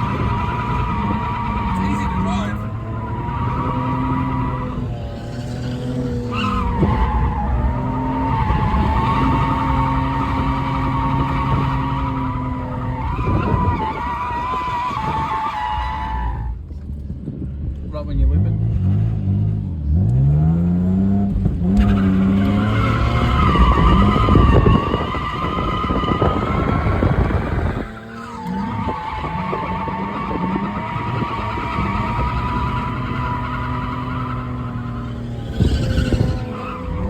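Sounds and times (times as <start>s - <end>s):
tyres squealing: 0.0s - 16.5s, 21.8s - 37.0s
car engine revving: 0.0s - 17.1s, 17.9s - 37.0s.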